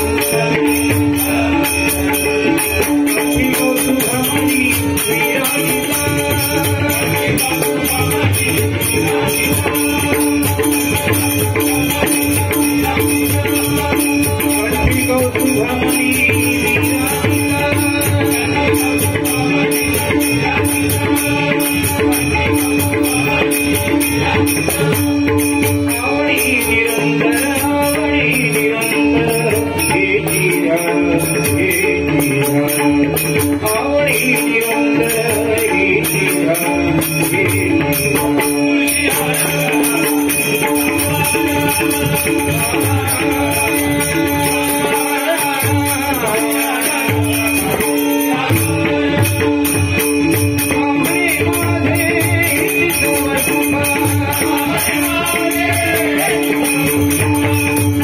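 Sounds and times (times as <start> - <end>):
hand cymbals jingling: 0.0 - 58.0.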